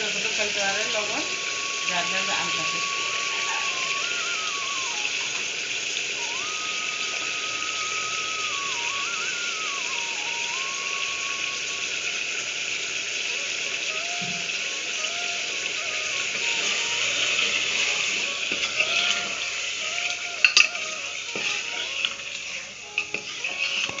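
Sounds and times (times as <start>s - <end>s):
faint wavering melody: 0.0s - 24.0s
oil sizzling in a pot: 0.0s - 24.0s.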